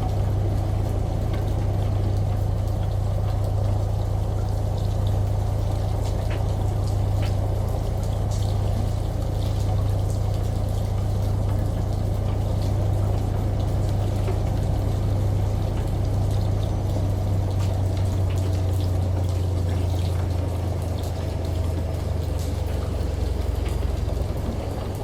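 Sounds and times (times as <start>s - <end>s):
washing machine running: 0.0s - 25.0s
water pouring: 0.1s - 25.0s.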